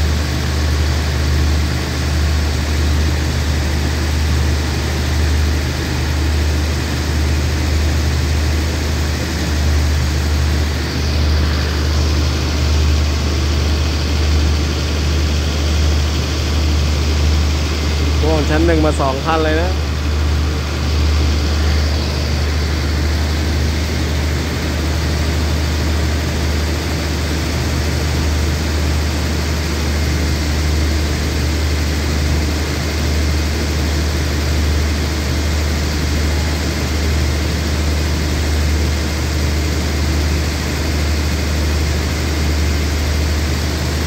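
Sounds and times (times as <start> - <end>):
diesel train engines idling: 0.0 - 44.0.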